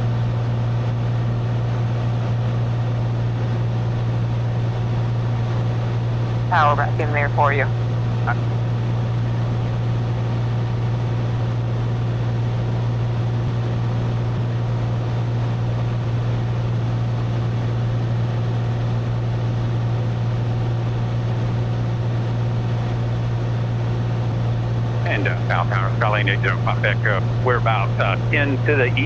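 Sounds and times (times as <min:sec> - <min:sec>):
propeller engine droning: 0:00.0 - 0:29.0.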